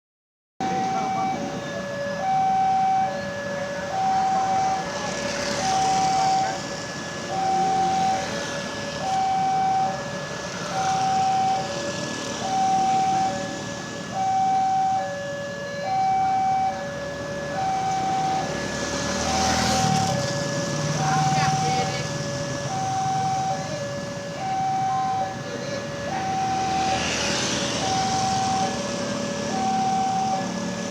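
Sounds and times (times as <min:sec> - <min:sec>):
level crossing alarm: 0:00.6 - 0:30.9
traffic noise: 0:00.6 - 0:30.9.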